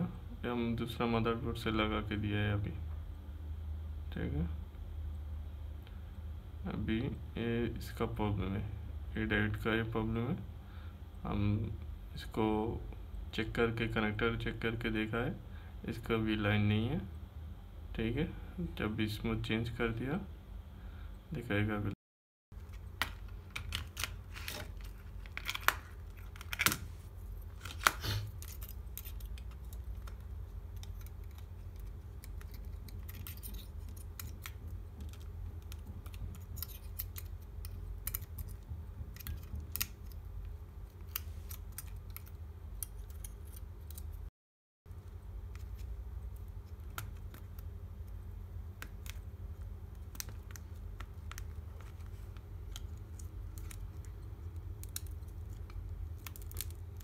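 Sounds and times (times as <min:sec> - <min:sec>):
steady low hum: 0:00.0 - 0:22.0, 0:22.6 - 0:44.3, 0:44.9 - 0:57.0.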